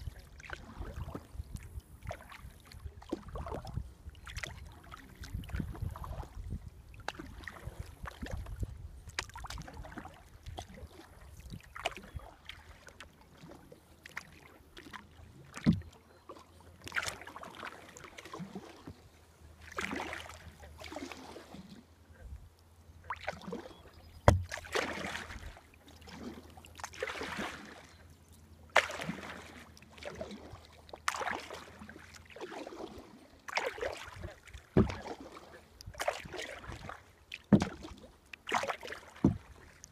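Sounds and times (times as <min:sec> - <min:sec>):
paddle splashing water: 0:00.0 - 0:39.9.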